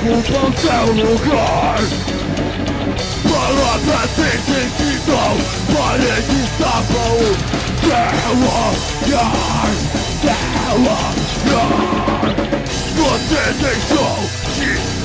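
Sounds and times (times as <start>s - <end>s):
vocals: 0.0s - 2.2s, 3.0s - 15.0s
drum kit: 0.0s - 15.0s
electric guitar: 0.0s - 15.0s.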